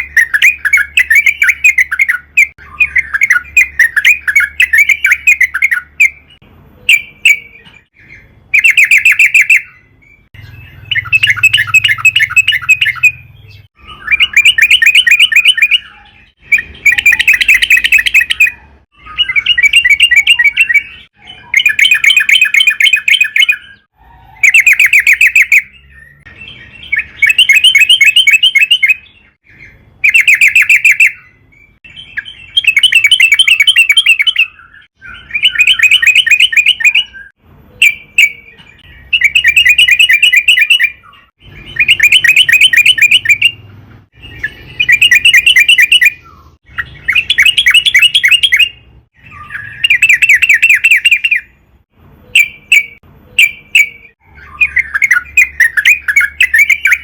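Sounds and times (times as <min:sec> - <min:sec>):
bird singing bubbling notes: 0:00.0 - 0:51.6, 0:52.3 - 0:57.0.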